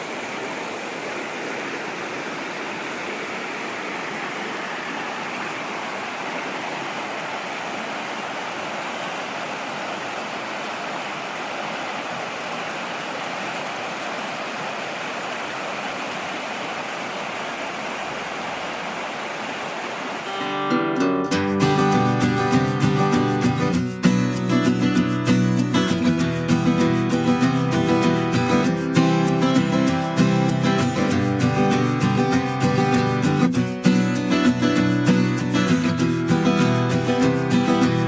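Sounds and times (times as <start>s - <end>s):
mountain stream flowing: 0.0s - 21.0s, 25.8s - 38.0s.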